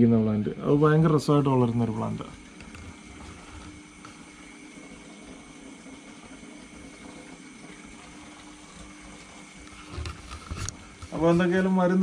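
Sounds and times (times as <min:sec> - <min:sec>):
faint pump hum: 0:00.0 - 0:12.0.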